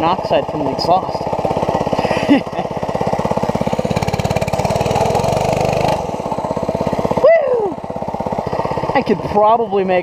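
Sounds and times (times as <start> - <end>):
small motorbike engine idling: 0.0 - 10.0.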